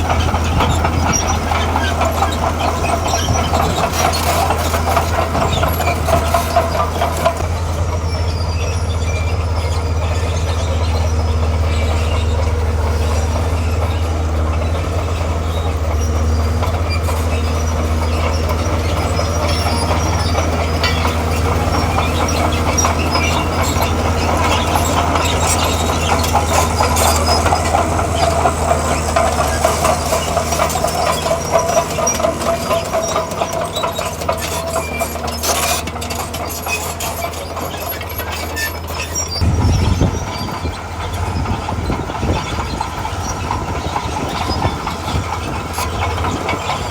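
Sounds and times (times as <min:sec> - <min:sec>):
bulldozer diesel engine running: 0:00.0 - 0:46.9
steel tracks clattering: 0:00.0 - 0:46.9.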